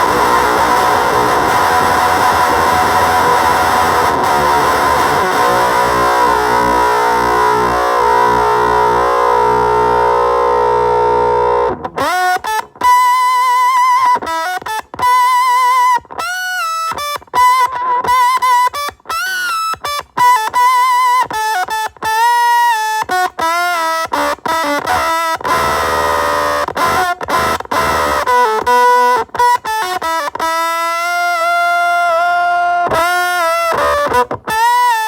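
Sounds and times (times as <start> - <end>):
fuzzy electric guitar: 0.0 - 35.0.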